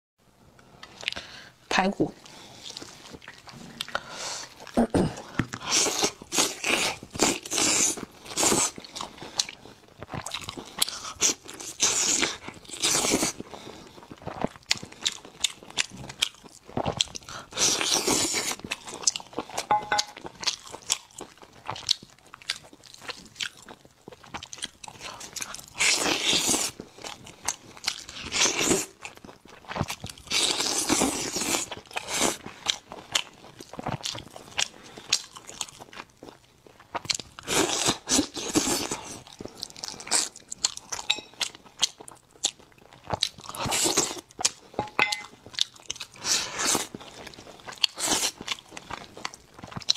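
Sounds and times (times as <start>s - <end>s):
person chewing ribs: 0.8s - 1.3s, 2.2s - 49.9s.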